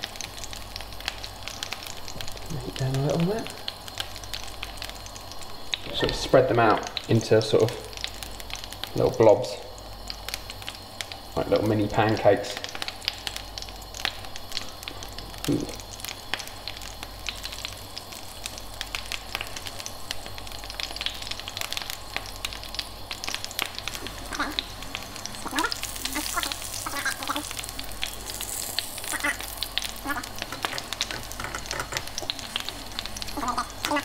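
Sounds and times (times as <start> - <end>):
pancakes sizzling in oil: 0.0 - 34.0.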